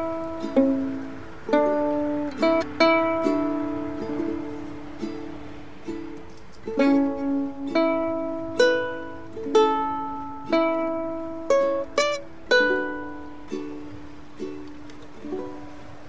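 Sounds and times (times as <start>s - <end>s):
ukulele playing: 0.0s - 16.0s.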